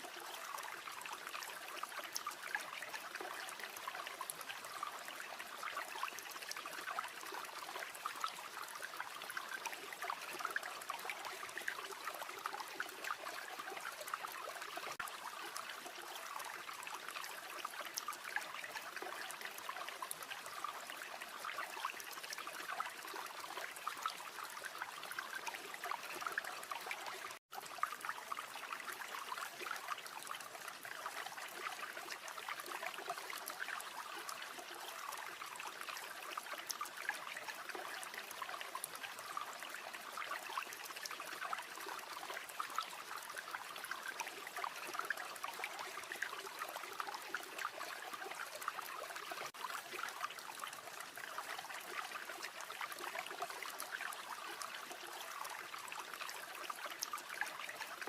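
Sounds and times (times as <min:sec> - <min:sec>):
stream water burbling: 0:00.0 - 0:58.0.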